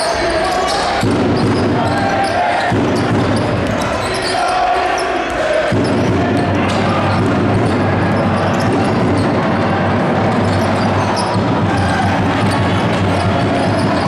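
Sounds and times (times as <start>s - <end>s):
shoe squeaks: 0.0s - 9.3s, 10.3s - 14.0s
crowd din: 0.0s - 14.0s
basketball bouncing on court: 0.7s - 4.3s, 5.3s - 14.0s.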